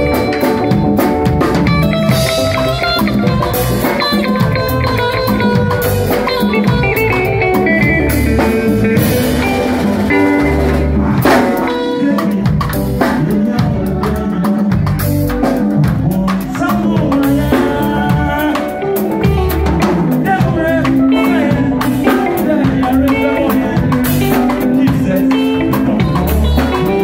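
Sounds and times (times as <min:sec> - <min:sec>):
drum kit: 0:00.0 - 0:27.0
electric guitar lead lines: 0:00.0 - 0:27.0.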